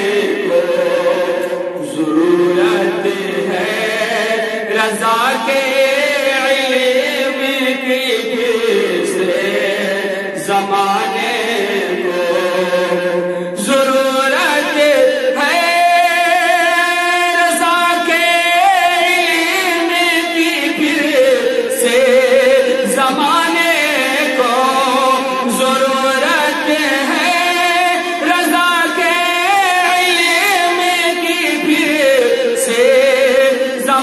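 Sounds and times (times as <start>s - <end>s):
man singing devotional song: 0.0s - 34.0s.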